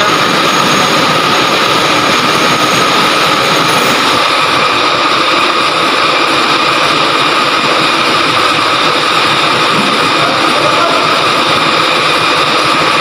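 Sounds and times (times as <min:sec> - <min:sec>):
crane engine idling: 0:00.0 - 0:13.0
steady whine: 0:00.0 - 0:13.0.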